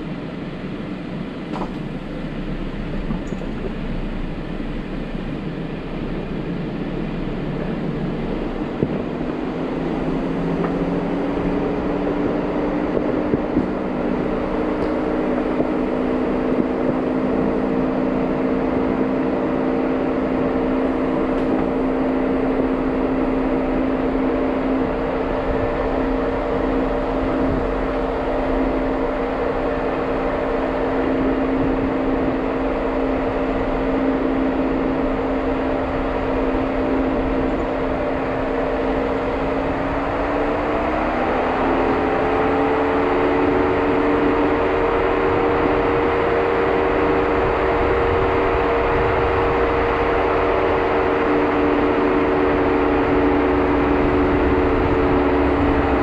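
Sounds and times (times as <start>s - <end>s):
car engine humming while driving: 0.0s - 56.0s.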